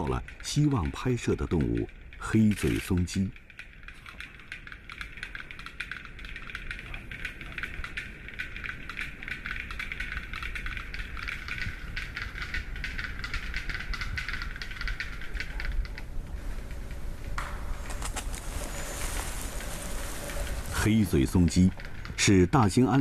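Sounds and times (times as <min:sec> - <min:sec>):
bird clicking: 0:00.0 - 0:23.0.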